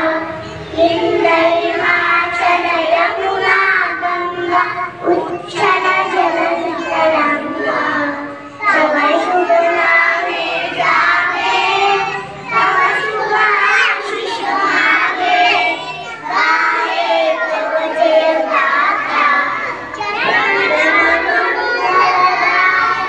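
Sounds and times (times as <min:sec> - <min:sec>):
children singing in unison: 0:00.0 - 0:23.0.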